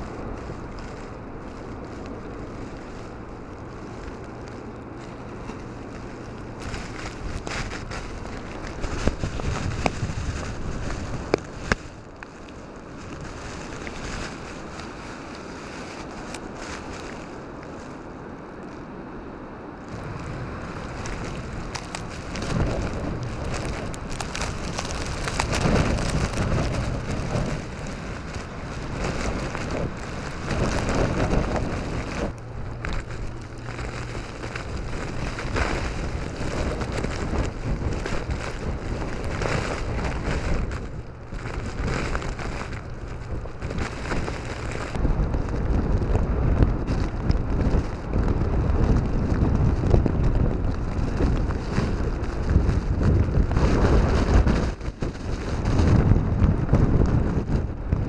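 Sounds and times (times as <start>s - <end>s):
blizzard wind buffeting microphone: 0.0s - 58.0s.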